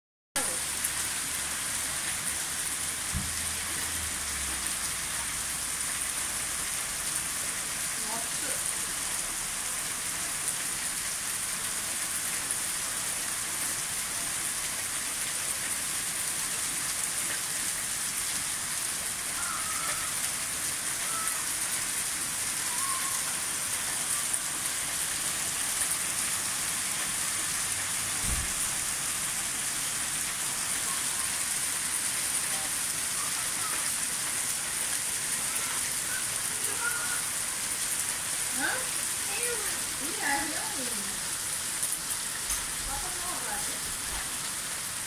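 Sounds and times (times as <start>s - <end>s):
hail and rain on concrete: 0.4s - 45.0s.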